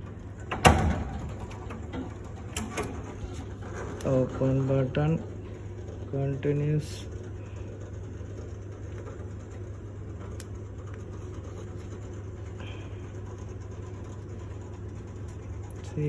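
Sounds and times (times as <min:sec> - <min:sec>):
elevator door drive humming: 0:00.0 - 0:16.0.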